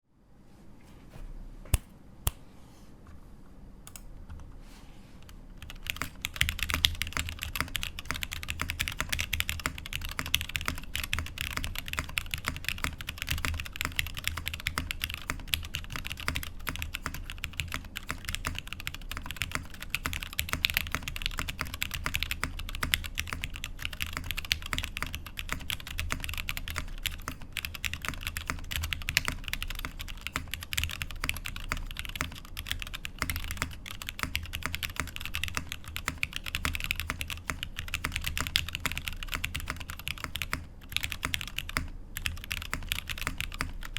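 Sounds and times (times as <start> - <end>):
mechanical keyboard typing: 5.2 - 43.9.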